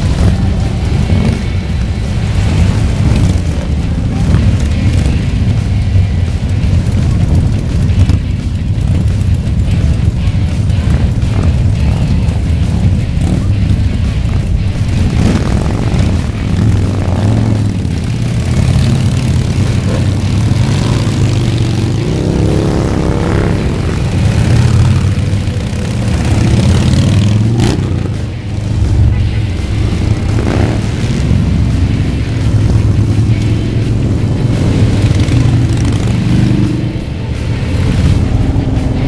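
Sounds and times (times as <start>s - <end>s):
engine revving: 0.0s - 39.0s
many motorcycle engines rumbling: 0.0s - 39.0s.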